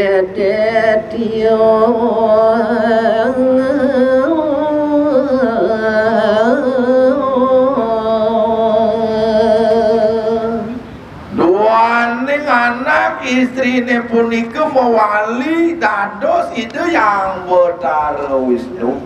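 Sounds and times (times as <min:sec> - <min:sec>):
man singing into a microphone: 0:00.0 - 0:18.4.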